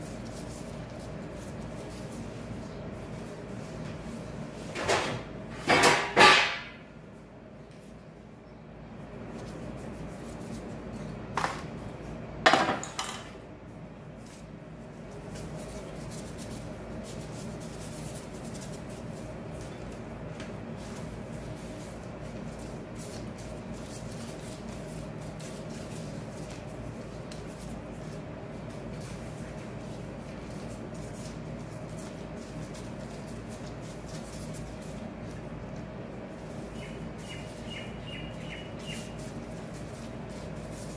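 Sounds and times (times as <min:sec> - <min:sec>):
dough handling sounds: 0:00.0 - 0:40.9
steady low hum: 0:00.0 - 0:40.9.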